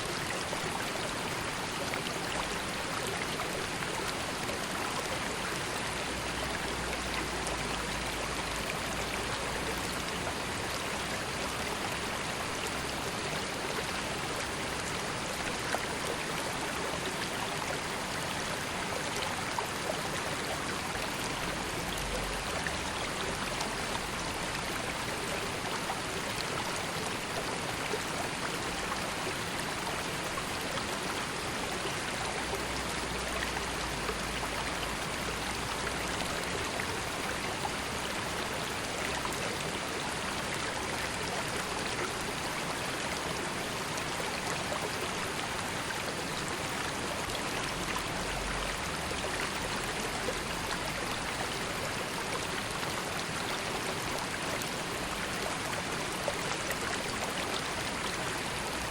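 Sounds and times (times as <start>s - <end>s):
river water babbling over stones: 0.0s - 58.9s.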